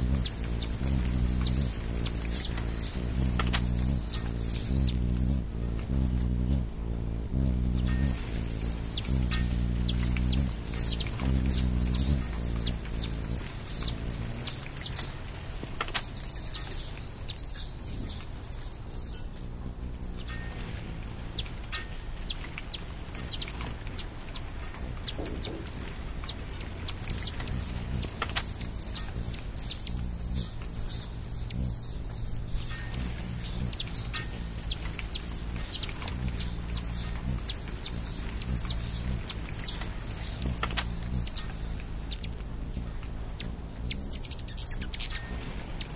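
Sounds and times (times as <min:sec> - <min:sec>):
high steady insect trill: 0:00.0 - 0:45.9.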